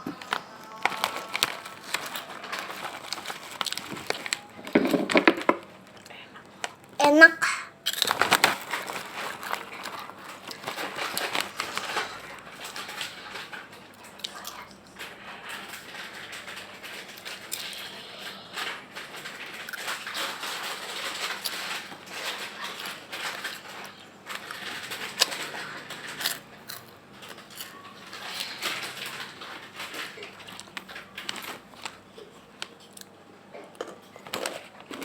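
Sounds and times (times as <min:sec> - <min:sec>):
chewing crispy snack: 0:00.0 - 0:04.8, 0:07.5 - 0:35.0.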